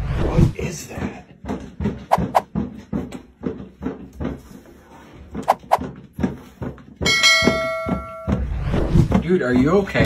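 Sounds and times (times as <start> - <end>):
knocks and thumps: 0.9 - 10.0.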